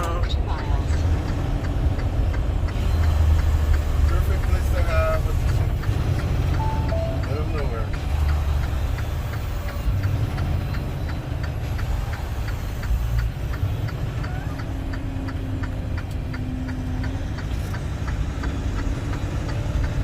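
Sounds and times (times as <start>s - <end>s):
diesel engine rumble: 0.0s - 20.0s.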